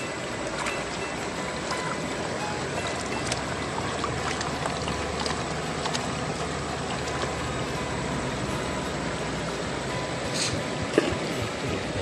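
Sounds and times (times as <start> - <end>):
water swishing in a pan: 0.0 - 9.9.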